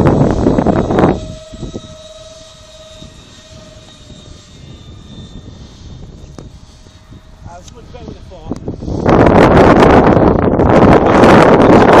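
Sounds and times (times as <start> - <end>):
model jet motor whining: 0.0 - 12.0.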